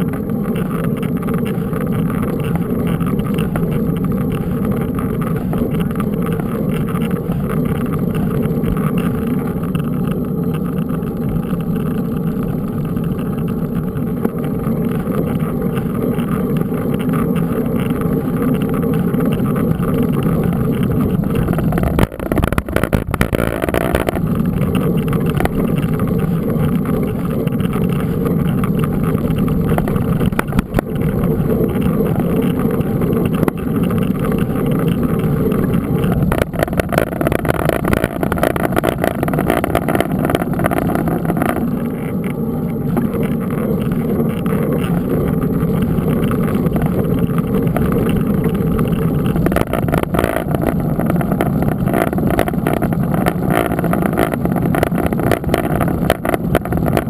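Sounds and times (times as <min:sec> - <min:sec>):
bike clicks and rattles: 0:00.0 - 0:57.0
wind rumble on microphone: 0:00.0 - 0:57.0.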